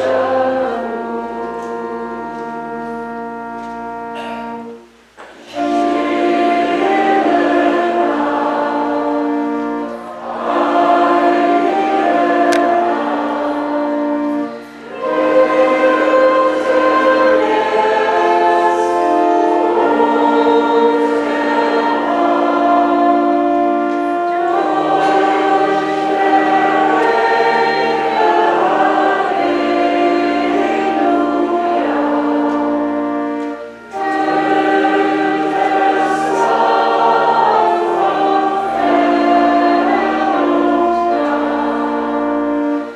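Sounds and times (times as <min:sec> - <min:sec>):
church choir singing a hymn: 0:00.0 - 0:42.9.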